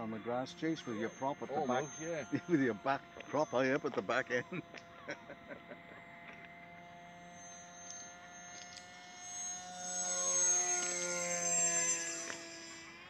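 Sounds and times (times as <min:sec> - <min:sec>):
model jet plane motors whining: 0:00.0 - 0:13.0.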